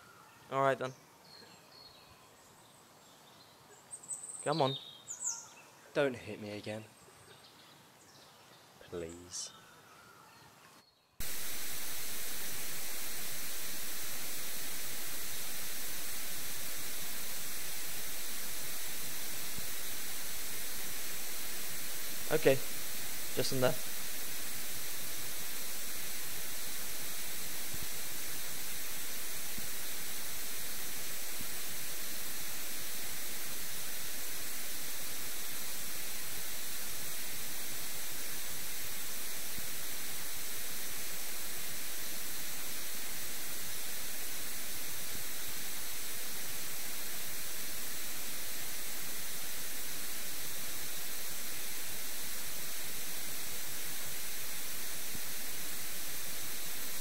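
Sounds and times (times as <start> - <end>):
steady static hiss: 0.0 - 57.0.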